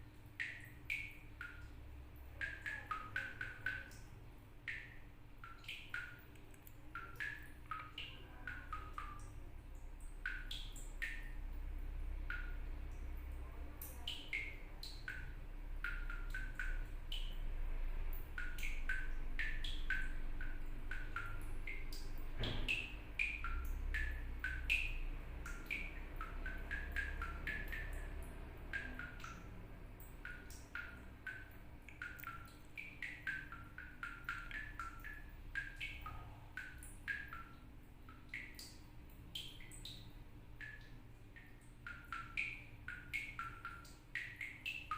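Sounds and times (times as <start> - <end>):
water dripping from a tap: 0.0 - 44.9.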